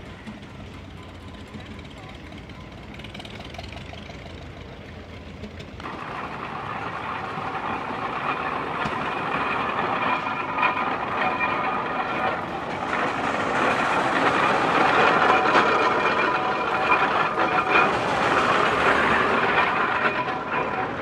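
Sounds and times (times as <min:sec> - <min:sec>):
steam engine mechanical clatter: 0:00.0 - 0:21.0.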